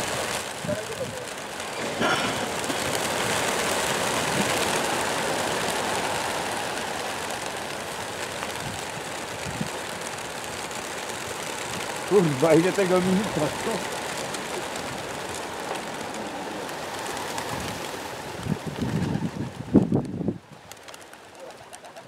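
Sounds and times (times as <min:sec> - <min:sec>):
pigeon wings flapping: 0:00.0 - 0:22.0.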